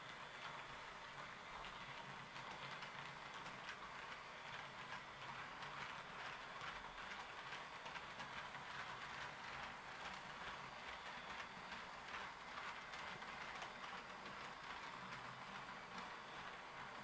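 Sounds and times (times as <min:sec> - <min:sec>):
model train wheels clicking: 0:00.0 - 0:17.0.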